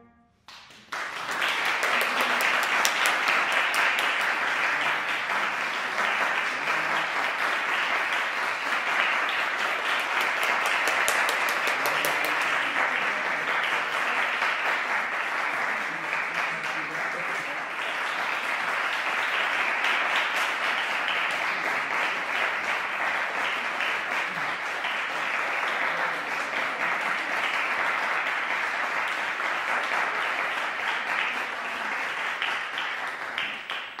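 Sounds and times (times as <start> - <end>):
audience applauding: 0.5 - 34.0.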